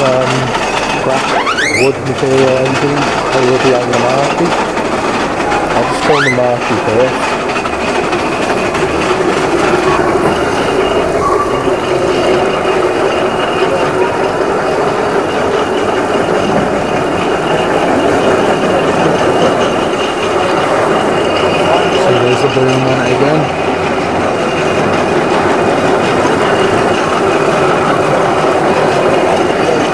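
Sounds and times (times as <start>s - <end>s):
machine running with hum and whine: 0.0s - 29.9s.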